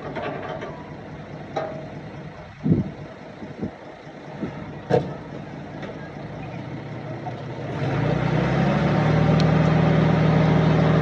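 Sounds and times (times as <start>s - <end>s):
diesel machinery running: 0.0s - 11.0s.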